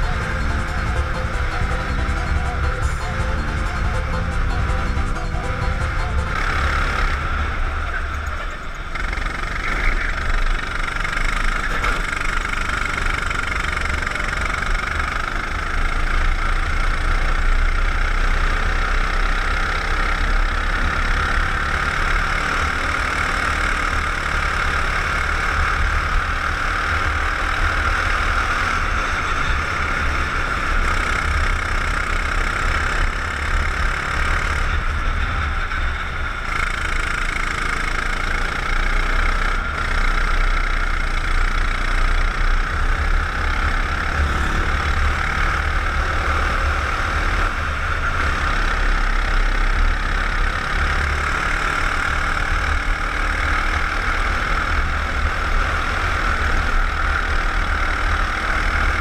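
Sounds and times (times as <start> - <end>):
go-kart engine droning: 0.0 - 59.0.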